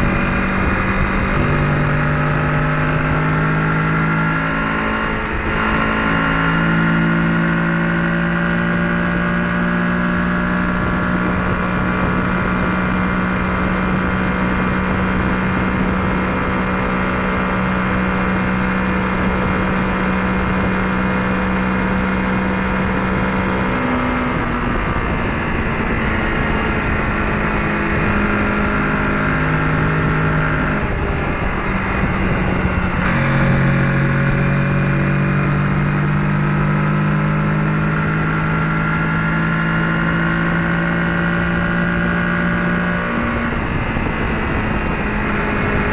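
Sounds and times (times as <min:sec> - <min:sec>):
wind rush: 0:00.0 - 0:06.9, 0:10.4 - 0:45.9
motorcycle engine at speed: 0:00.0 - 0:45.9.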